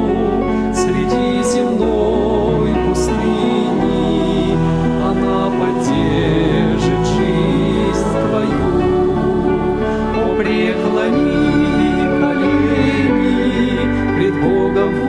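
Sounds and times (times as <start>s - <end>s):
person singing worship song: 0.0s - 15.0s
sustained instrumental chords: 0.0s - 15.0s.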